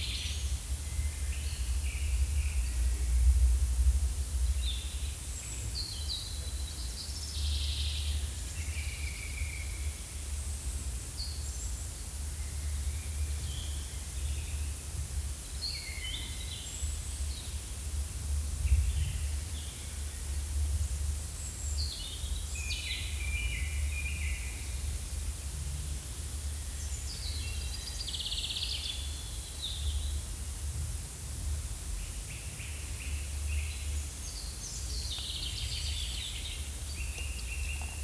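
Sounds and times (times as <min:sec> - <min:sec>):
faint hiss: 0:00.0 - 0:38.0.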